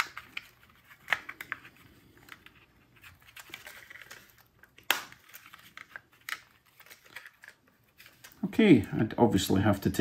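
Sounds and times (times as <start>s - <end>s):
plastic clicks and rustling: 0.0s - 9.0s.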